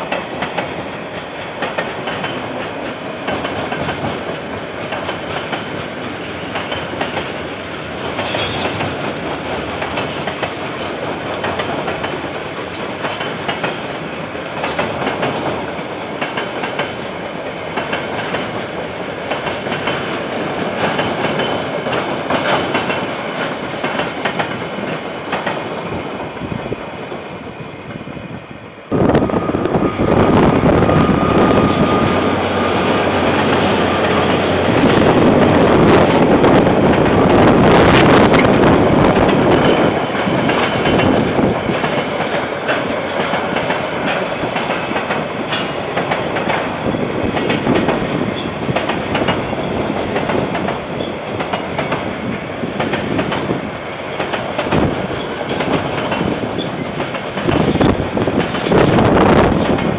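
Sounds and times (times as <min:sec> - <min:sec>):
freight train wagons rumbling past: 0:00.0 - 0:59.9
loud passing train: 0:00.0 - 0:59.9.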